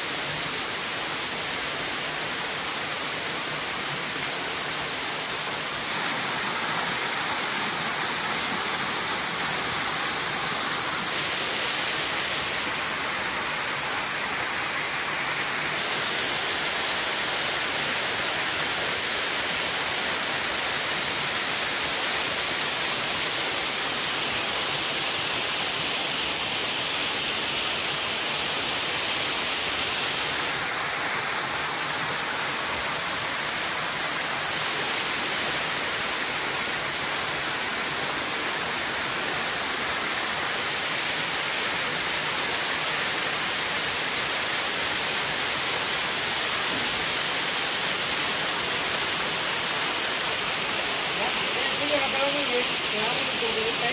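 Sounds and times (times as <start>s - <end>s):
waterfall pouring into pool: 0.0s - 53.9s.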